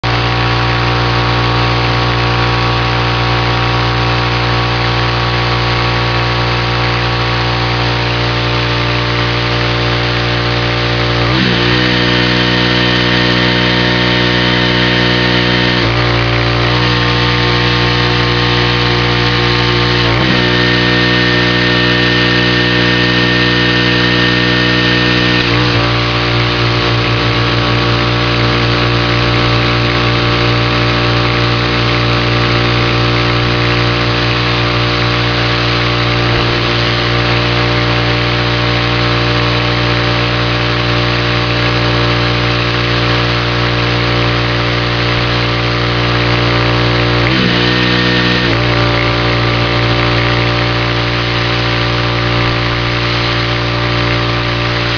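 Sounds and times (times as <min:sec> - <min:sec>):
high thin whine: 0:00.0 - 0:54.9
pressure washer engine running: 0:00.0 - 0:54.9.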